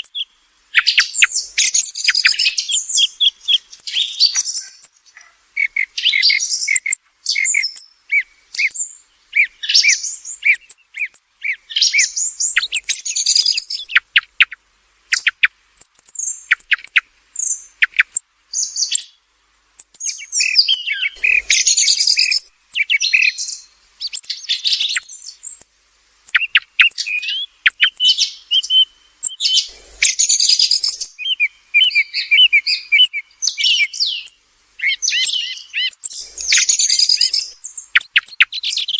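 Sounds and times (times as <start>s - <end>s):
song thrush singing: 0.0s - 38.9s.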